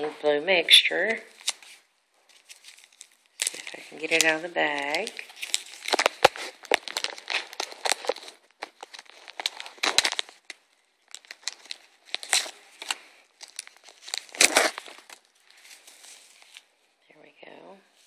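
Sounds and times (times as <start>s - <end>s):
plastic bags crinkling: 0.9s - 16.9s.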